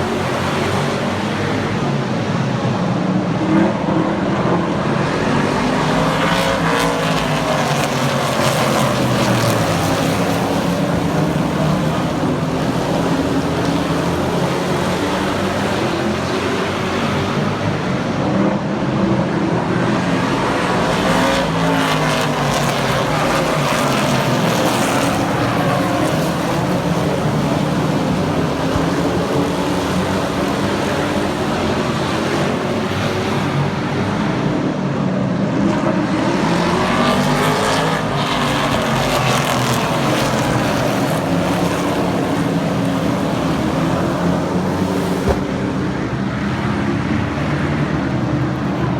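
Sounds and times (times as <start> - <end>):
race truck engines passing: 0.0 - 48.9.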